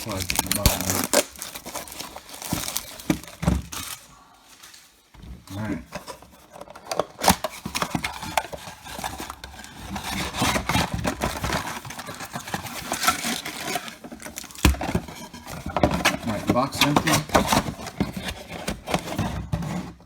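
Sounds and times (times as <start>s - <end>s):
card packs rustling: 0.0s - 20.0s.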